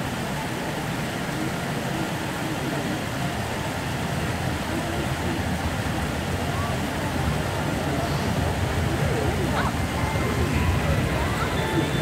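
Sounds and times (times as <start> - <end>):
faint murmuring voices: 0.0 - 12.0
low rumble and hiss: 0.0 - 12.0.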